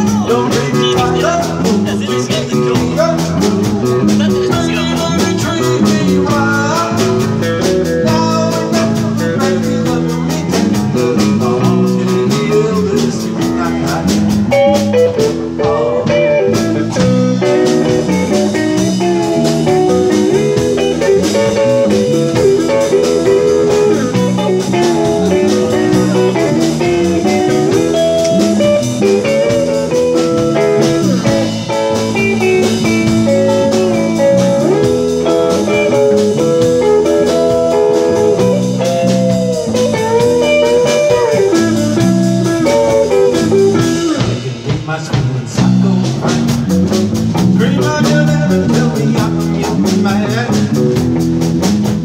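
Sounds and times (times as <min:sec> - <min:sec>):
electric guitar melody: 0:00.0 - 0:44.8, 0:45.5 - 0:52.0
drum kit beat: 0:00.0 - 0:52.0
electric bass: 0:00.0 - 0:52.0.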